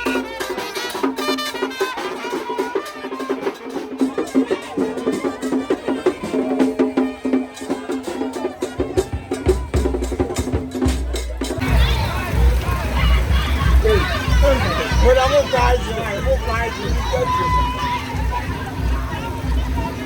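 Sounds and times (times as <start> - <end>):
music with busy percussive beat: 0.0 - 20.0.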